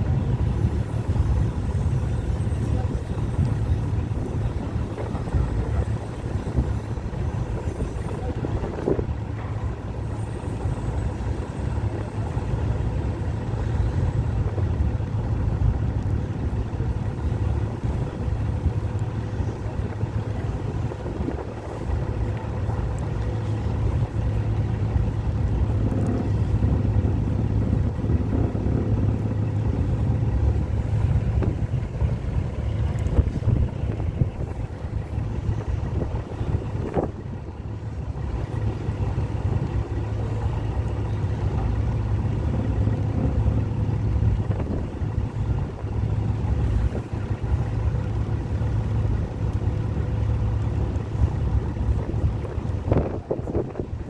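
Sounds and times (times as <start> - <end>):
low engine rumble: 0.0 - 54.0
wind buffeting microphone: 0.0 - 54.0.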